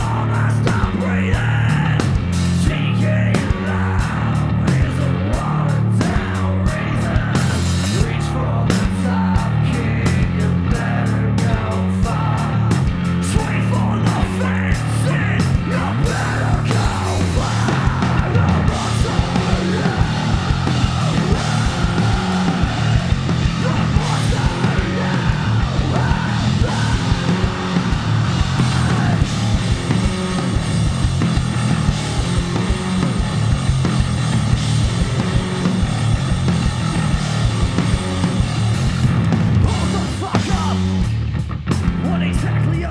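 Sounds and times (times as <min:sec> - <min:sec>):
live rock band playing: 0:00.0 - 0:42.6.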